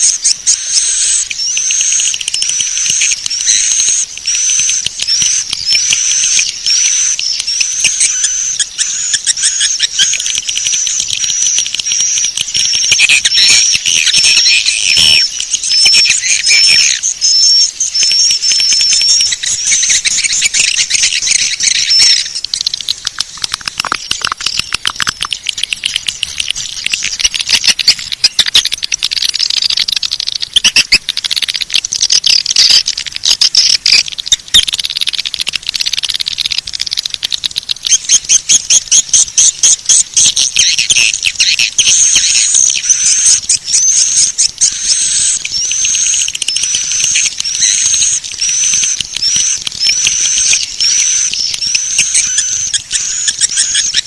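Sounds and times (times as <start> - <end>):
rapid clicks: 0.0 - 54.0
swiftlet twittering chirps: 0.0 - 54.0.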